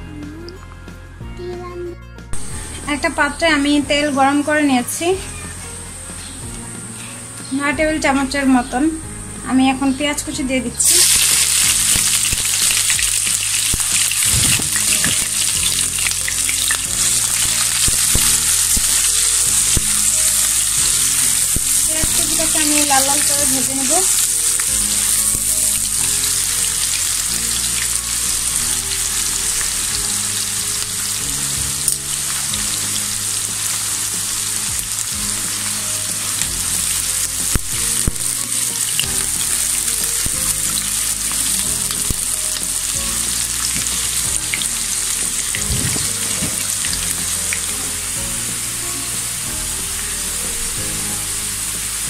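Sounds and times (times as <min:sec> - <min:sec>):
onions sizzling in hot oil: 0:07.6 - 0:52.0.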